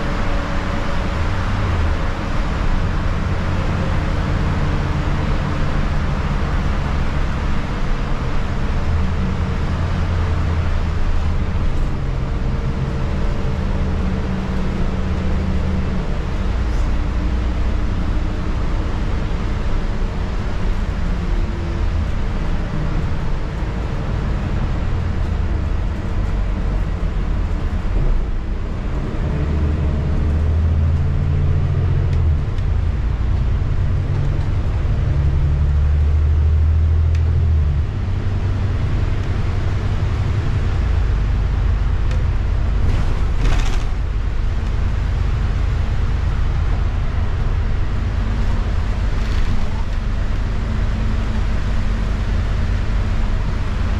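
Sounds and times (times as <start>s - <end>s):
bus engine droning: 0.0s - 53.9s.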